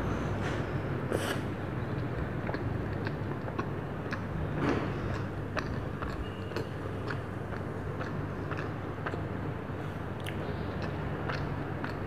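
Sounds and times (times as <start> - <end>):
steady low hum: 0.0 - 12.0
wet chewing mouth clicks: 1.2 - 9.4, 10.1 - 12.0.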